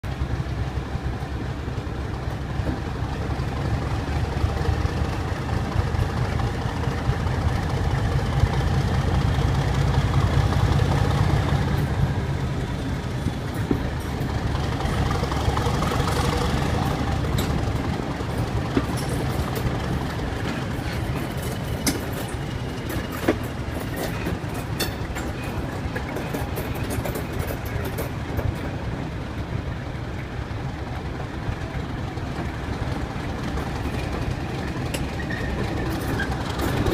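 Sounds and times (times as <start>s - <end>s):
diesel locomotive engine: 0.0s - 36.9s.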